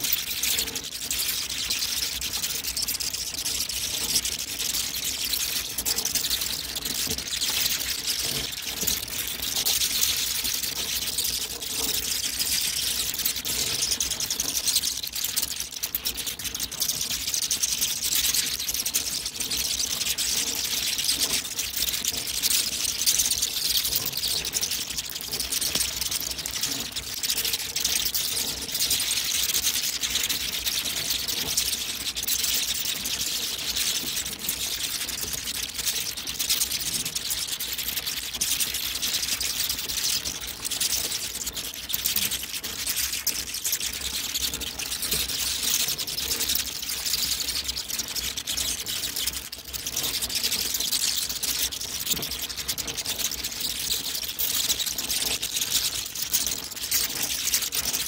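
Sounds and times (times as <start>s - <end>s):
bats chittering and squeaking: 0.0s - 58.0s.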